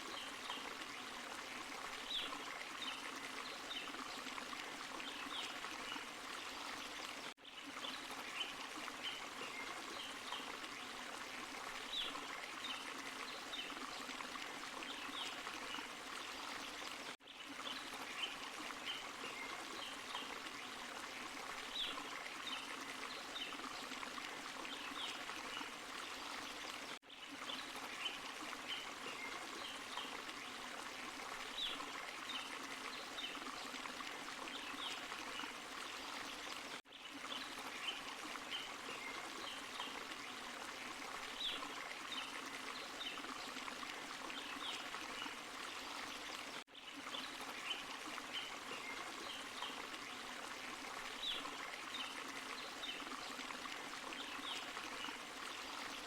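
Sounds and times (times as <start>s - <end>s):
stream and small waterfall: 0.0s - 56.0s.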